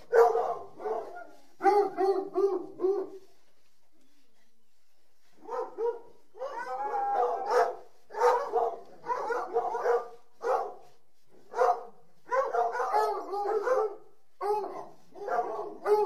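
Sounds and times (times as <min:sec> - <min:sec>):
dogs barking: 0:00.0 - 0:03.2, 0:05.4 - 0:10.8, 0:11.5 - 0:16.0.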